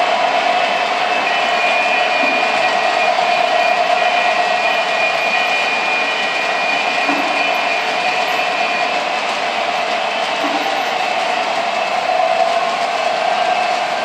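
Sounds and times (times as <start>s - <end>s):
model train wheels rumbling on rail: 0.0s - 14.0s.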